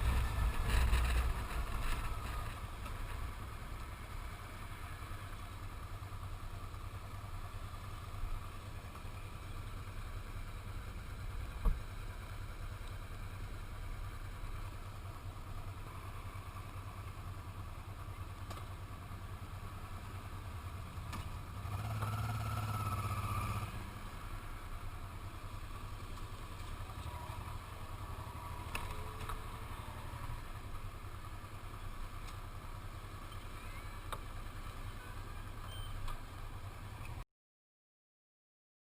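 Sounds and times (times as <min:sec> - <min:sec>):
motorcycle engine rumble: 0:00.0 - 0:37.2.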